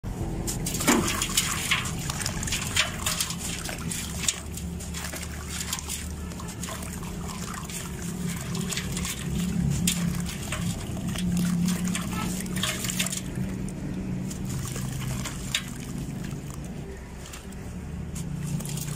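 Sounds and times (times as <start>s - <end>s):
water trickling and sloshing: 0.1s - 18.9s
gritty crunching and crackling: 0.3s - 18.9s.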